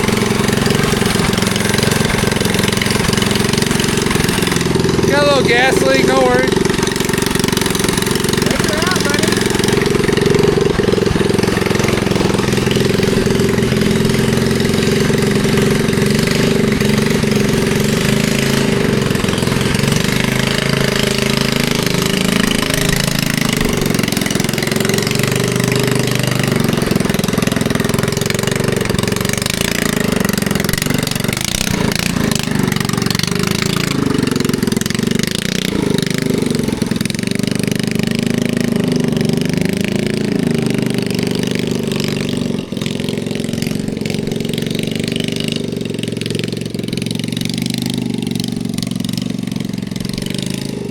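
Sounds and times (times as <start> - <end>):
mini bike engine revving: 0.0 - 50.9.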